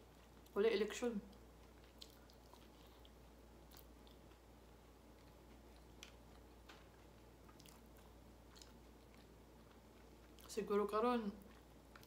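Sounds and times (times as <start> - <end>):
person chewing food: 1.3 - 10.5, 11.4 - 12.0.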